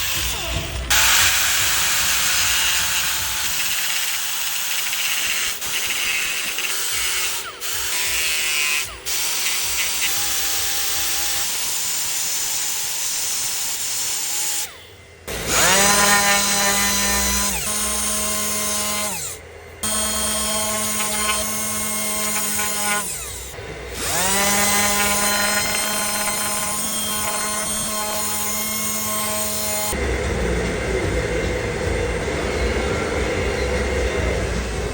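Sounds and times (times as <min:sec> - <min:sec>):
motor whining: 0:00.0 - 0:30.0
power tool grinding: 0:00.0 - 0:30.0.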